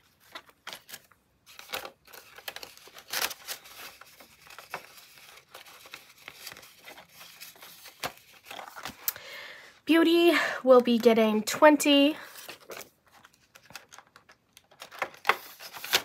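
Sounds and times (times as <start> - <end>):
paper banknotes rustling: 0.0 - 9.1, 12.2 - 16.0
plastic envelope crinkling: 0.0 - 9.2, 10.7 - 16.0.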